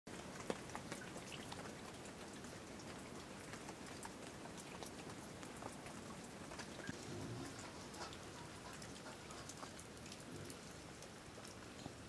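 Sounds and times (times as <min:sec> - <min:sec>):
light rain hiss: 0:00.1 - 0:12.0.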